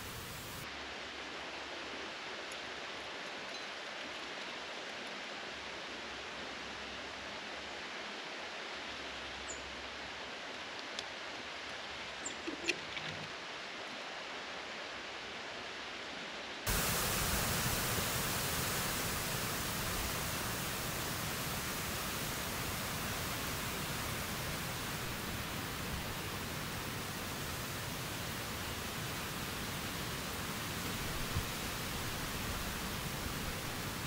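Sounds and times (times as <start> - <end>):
outdoor background hiss: 0.0 - 34.0.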